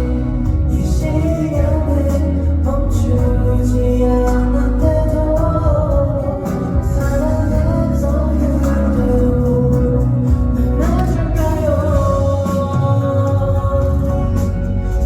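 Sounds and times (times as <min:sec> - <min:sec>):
band guitar and bass: 0:00.0 - 0:15.0.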